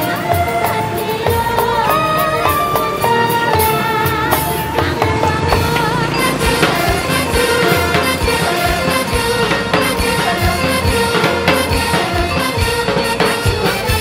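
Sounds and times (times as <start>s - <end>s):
drum beat: 0.0s - 14.0s
sustained melodic instrument tones: 0.0s - 14.0s.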